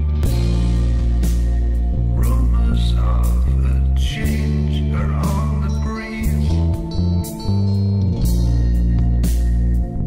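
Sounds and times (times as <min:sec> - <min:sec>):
deep bass notes: 0:00.0 - 0:10.0.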